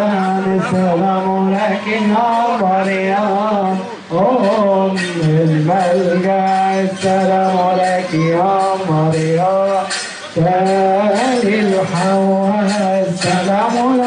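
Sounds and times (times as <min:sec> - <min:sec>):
light metallic percussion strikes: 0:00.0 - 0:14.0
men chanting a hymn: 0:00.0 - 0:14.0.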